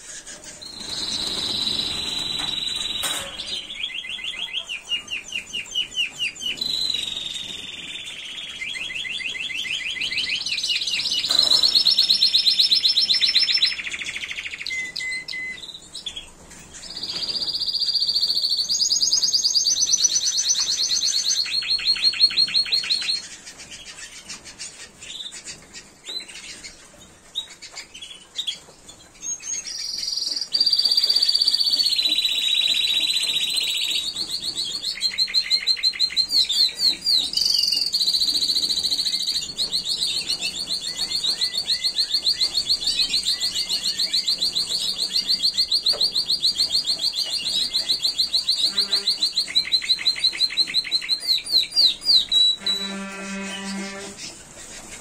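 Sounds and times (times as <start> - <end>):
canaries trilling: 0.0 - 55.0
canary chirps: 0.0 - 55.0.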